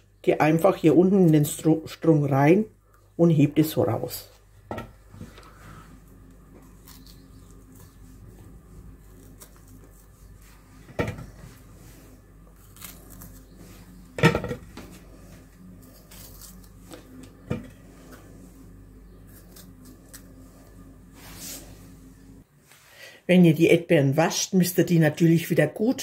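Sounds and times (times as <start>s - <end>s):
paring knife hulling strawberries: 0.2s - 22.4s.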